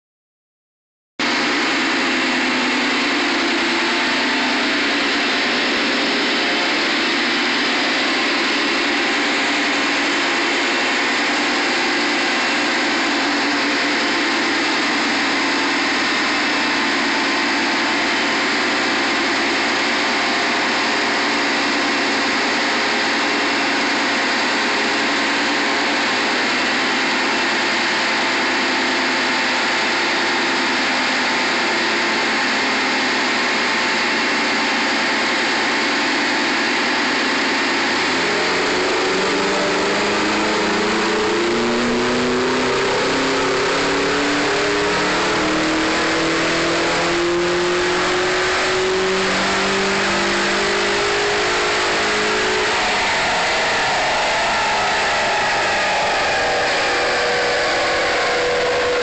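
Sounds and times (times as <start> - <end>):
car engine running steadily: 1.2 - 59.0.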